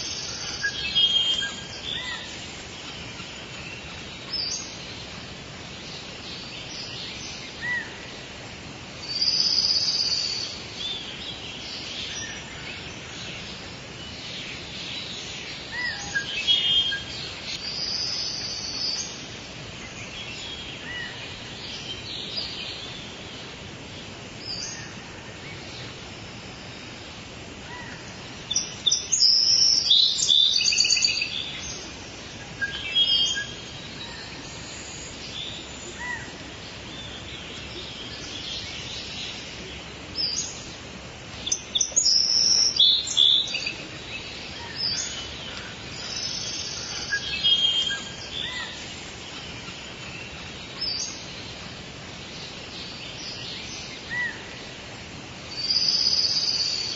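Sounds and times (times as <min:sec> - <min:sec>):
birds chirping and trilling: 0:00.0 - 0:56.9
steady low hiss: 0:00.0 - 0:56.9.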